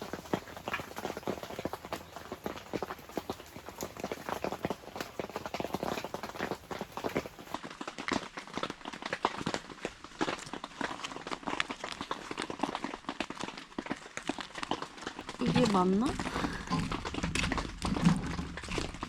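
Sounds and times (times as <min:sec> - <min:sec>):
shrimp frying in crackling oil: 0:00.0 - 0:19.0.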